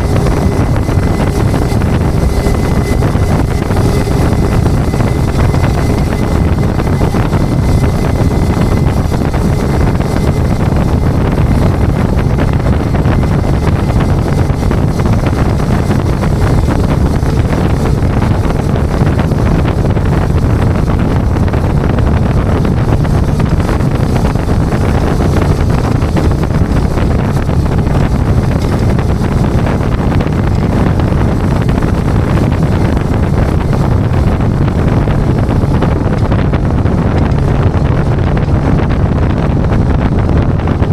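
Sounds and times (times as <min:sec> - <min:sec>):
truck engine and road noise: 0:00.0 - 0:40.9
wind buffeting microphone: 0:00.0 - 0:40.9.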